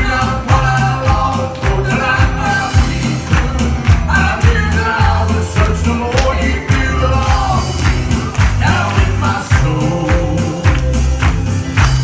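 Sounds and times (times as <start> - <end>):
heavy bass line: 0.0 - 12.0
steady percussive beat: 0.0 - 12.0
upbeat music with singing: 0.0 - 12.0.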